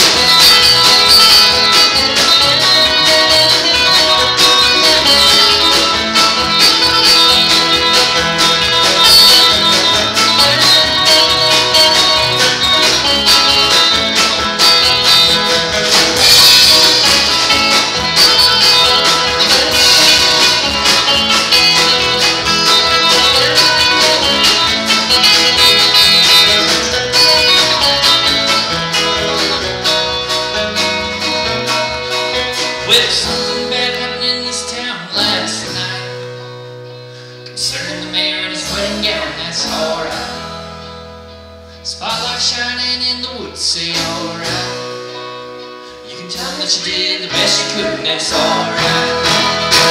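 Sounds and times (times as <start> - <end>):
band playing country bluegrass: 0.0 - 49.9.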